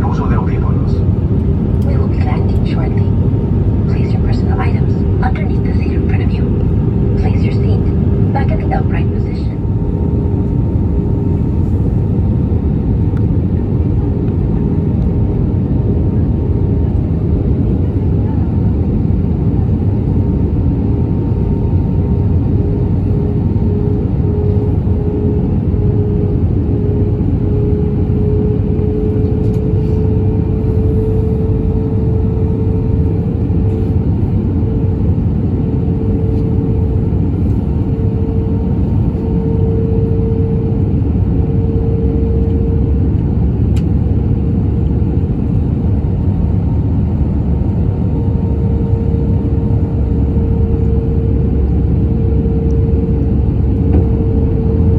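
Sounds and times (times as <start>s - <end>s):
steady hum: 0.0s - 14.0s, 14.8s - 54.9s
aircraft cabin engine rumble: 0.0s - 54.9s.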